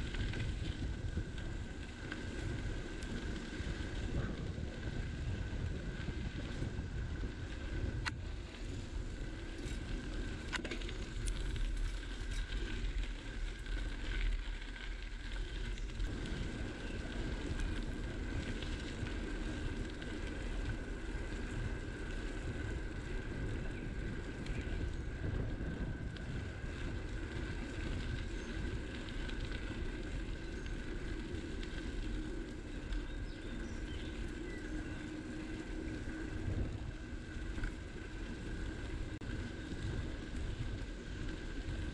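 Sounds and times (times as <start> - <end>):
bicycle tyres rolling: 0.0 - 41.9
wind rumbling on microphone: 0.0 - 41.9.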